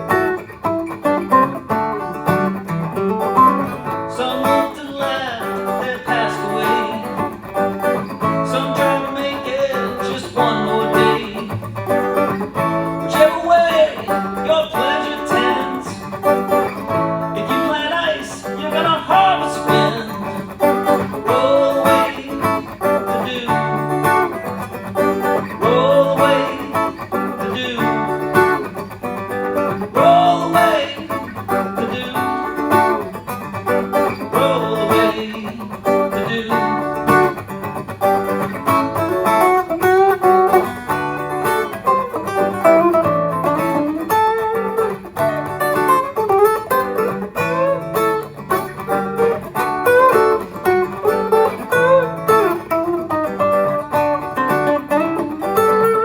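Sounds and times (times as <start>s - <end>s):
guitar lead line: 0.0s - 56.0s
strummed guitar chords: 0.0s - 56.0s.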